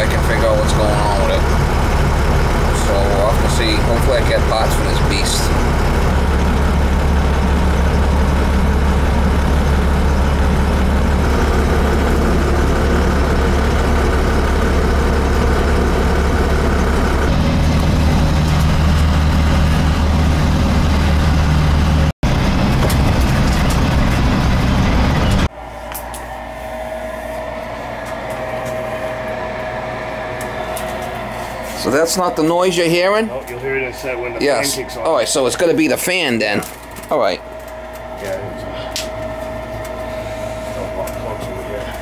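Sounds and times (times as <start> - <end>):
road noise: 0.0 - 42.0
vehicle engine hum: 0.0 - 42.0.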